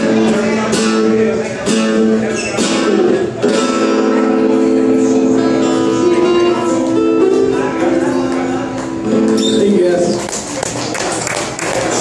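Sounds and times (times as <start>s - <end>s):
acoustic guitars ringing notes: 0.0s - 10.3s.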